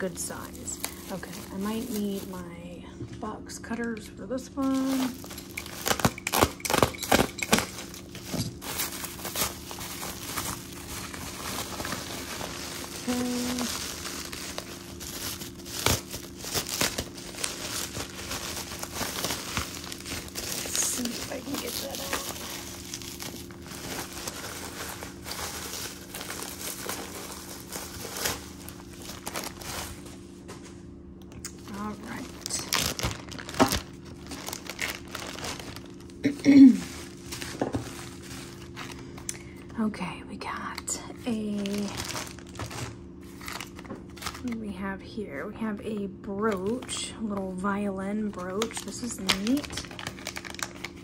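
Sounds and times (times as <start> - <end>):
packaging crinkling and rustling: 0.0 - 2.6, 4.6 - 39.7, 40.7 - 44.7, 46.3 - 51.0.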